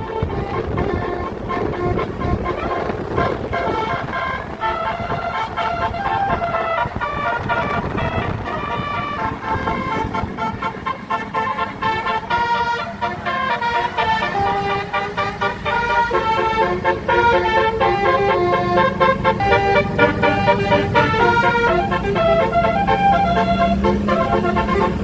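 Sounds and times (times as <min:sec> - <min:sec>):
bus engine running: 0:00.0 - 0:25.0
multi-tone air horn tune: 0:00.0 - 0:25.0.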